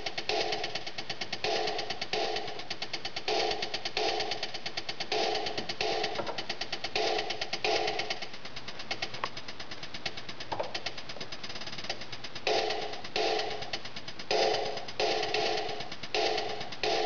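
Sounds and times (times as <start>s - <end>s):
fast electronic ticks: 0.0s - 17.0s.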